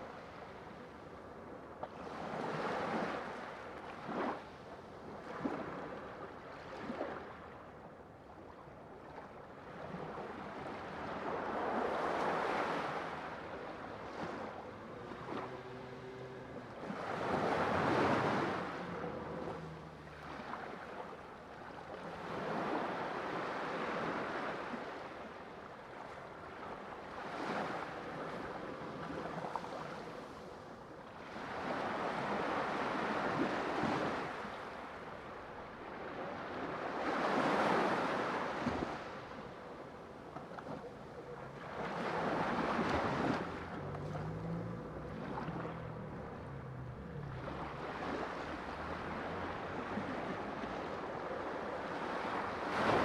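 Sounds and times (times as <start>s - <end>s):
ocean waves breaking: 9.6s - 53.0s.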